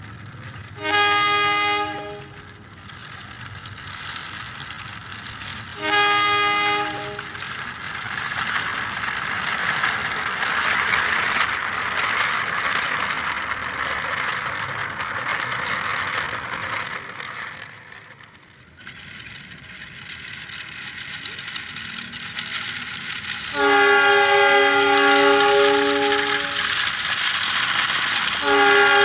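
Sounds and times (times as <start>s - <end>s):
toy train wheels rattling on concrete: 0.0s - 29.0s.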